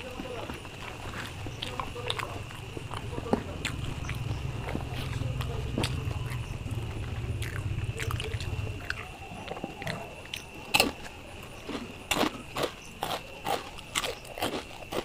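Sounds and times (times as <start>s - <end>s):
man chewing wetly: 0.0s - 15.0s.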